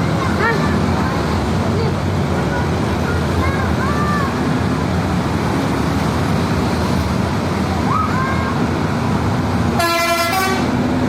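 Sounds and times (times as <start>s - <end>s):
bus engine: 0.0s - 11.0s
road traffic: 0.0s - 11.0s.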